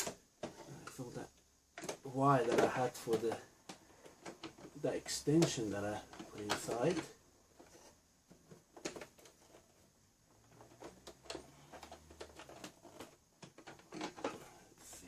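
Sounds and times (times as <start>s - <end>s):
light clicks and knocks of parts: 0.0s - 15.0s.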